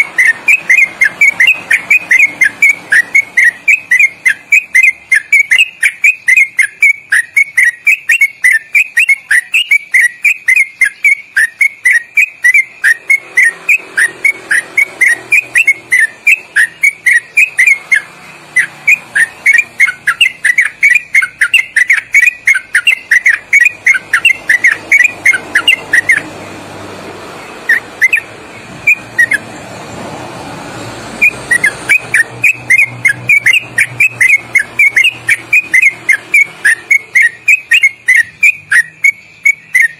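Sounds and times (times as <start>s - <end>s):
bird singing rapid whistled notes: 0.0s - 26.5s, 27.3s - 29.5s, 30.8s - 39.9s.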